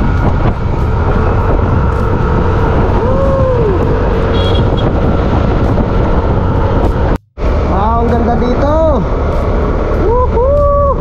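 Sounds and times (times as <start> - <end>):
rising and falling tone: 0.0 - 11.0
vehicle engine and wind rumble: 0.0 - 11.0.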